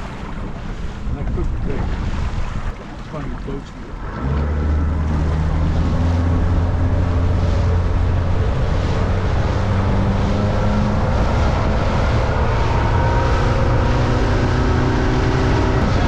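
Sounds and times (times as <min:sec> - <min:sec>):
boat engine humming: 0:00.0 - 0:16.0
water rushing past hull: 0:00.0 - 0:16.0
wind buffeting microphone: 0:00.0 - 0:16.0.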